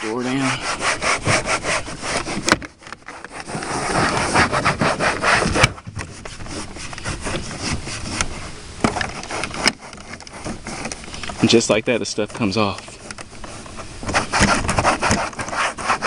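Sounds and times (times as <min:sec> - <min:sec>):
towel scrubbing plastic panel: 0:00.0 - 0:16.0.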